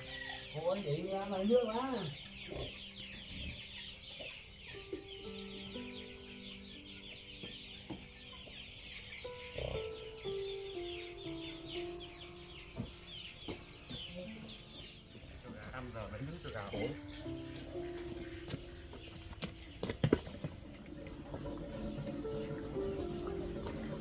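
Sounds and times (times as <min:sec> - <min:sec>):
chickens cheeping and clucking: 0:00.0 - 0:24.0.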